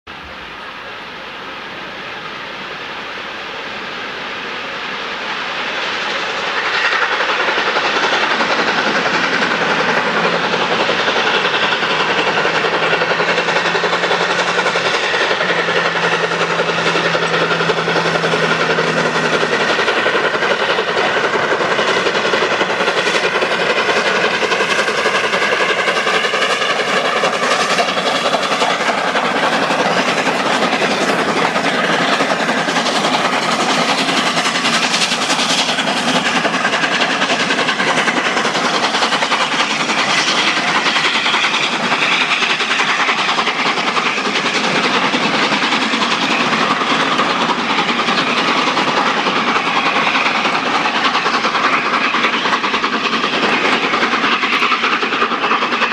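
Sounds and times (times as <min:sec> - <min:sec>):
train rolling: 0:00.1 - 0:55.9
steam locomotive exhaust: 0:00.2 - 0:55.9.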